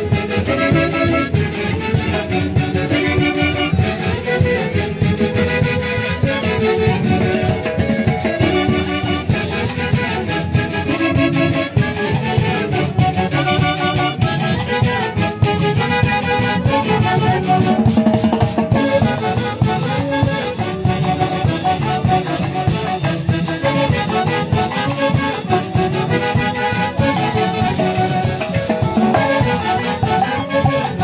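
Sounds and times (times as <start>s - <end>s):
live band playing dance music: 0.0s - 31.0s.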